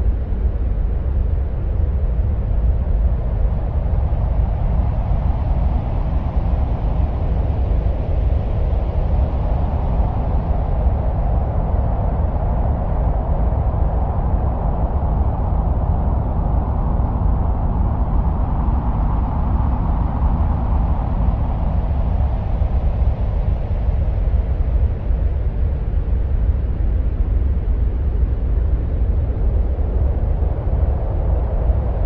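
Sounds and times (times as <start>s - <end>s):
deep wind-like rumbling: 0.0s - 32.0s.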